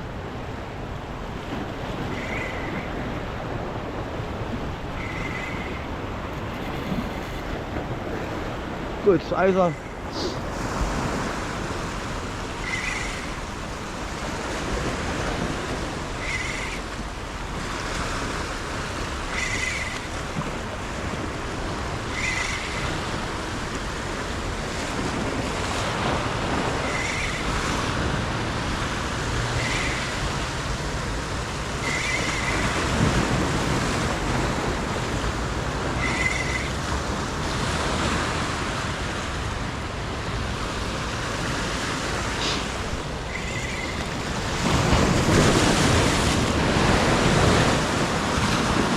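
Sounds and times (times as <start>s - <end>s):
wind on microphone: 0.0s - 9.1s, 9.8s - 48.9s
ocean surf washing: 0.0s - 48.9s.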